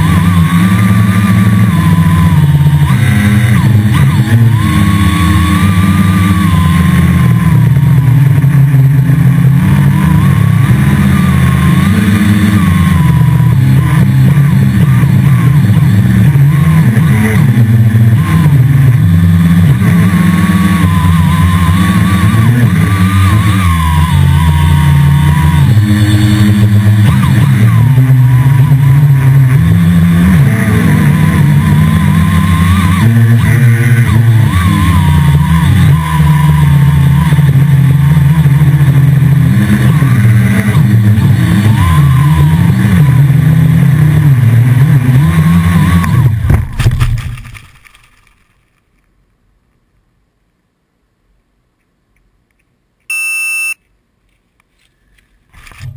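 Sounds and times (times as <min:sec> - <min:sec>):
drone propellers buzzing: 0:00.0 - 0:48.2.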